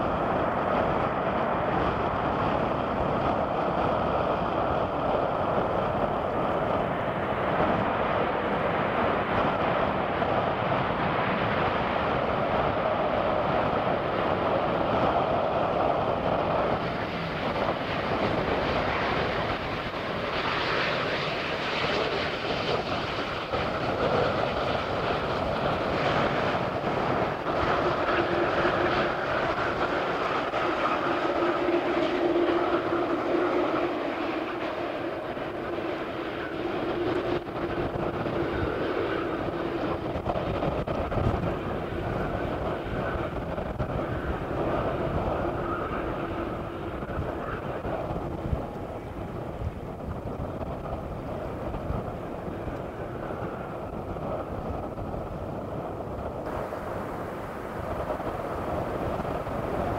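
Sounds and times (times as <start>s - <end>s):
jet airliner rumbling on runway: 0.0s - 59.9s.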